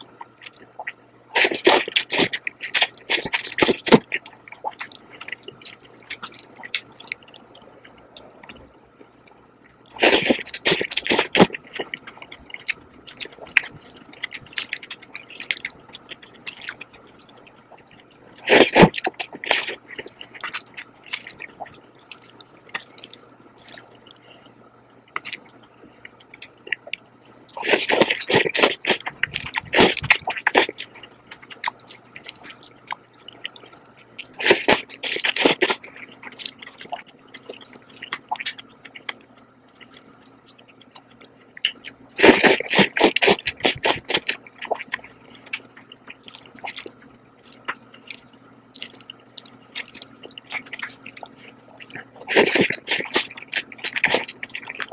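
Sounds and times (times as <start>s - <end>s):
noodles slurping: 0.0s - 8.6s, 9.9s - 24.5s, 25.2s - 54.9s
chewing: 0.0s - 54.9s.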